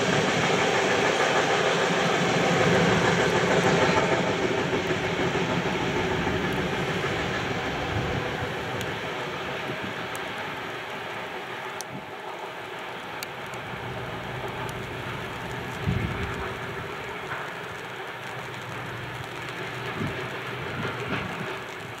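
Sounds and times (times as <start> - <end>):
freight train wagons rumbling: 0.0 - 22.0.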